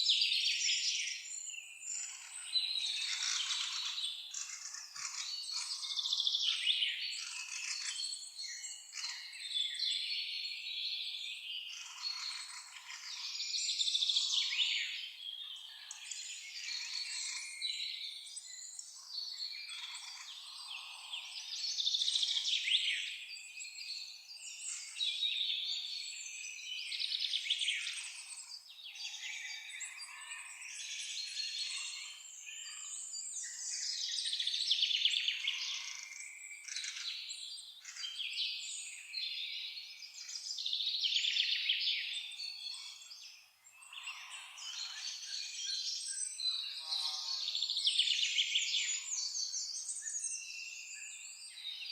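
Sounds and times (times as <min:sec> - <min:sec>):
songbirds singing and chirping: 0:00.0 - 0:51.9.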